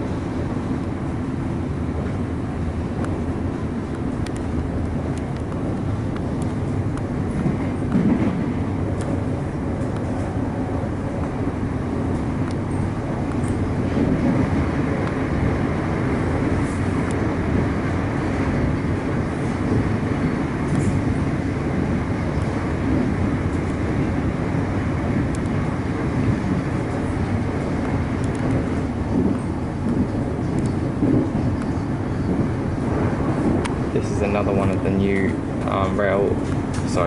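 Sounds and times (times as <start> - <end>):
electric train rumbling on track: 0.0 - 37.0.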